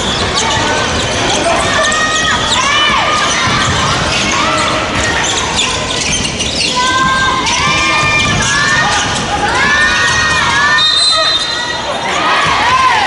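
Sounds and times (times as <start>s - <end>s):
sneaker squeaks: 0.0s - 12.8s
voices echoing: 0.0s - 13.0s.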